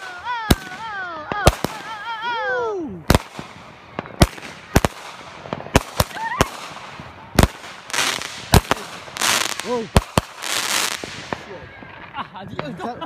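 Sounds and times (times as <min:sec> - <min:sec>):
fireworks hissing crackle: 0:00.0 - 0:12.6
fireworks bangs: 0:00.0 - 0:12.8.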